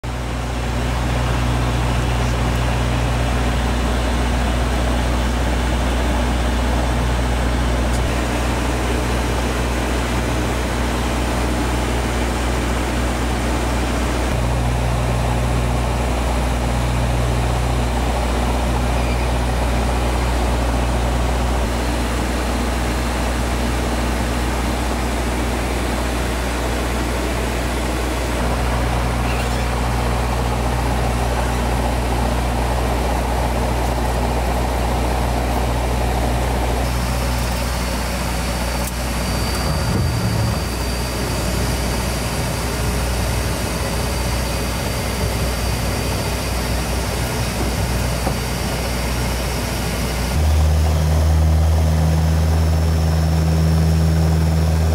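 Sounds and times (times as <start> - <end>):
turboprop engines droning: 0.0 - 54.9.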